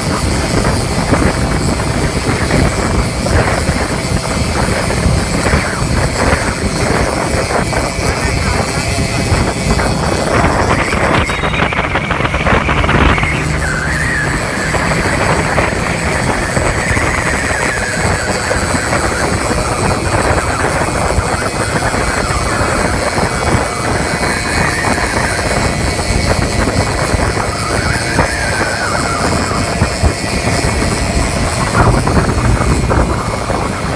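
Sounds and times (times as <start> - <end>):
motorcycle rickshaw engines: 0.0 - 33.9.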